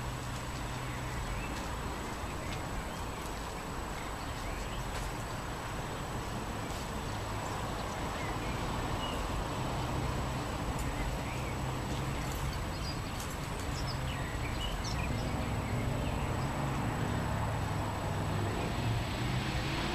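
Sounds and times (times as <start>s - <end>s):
wind: 0.0s - 19.9s.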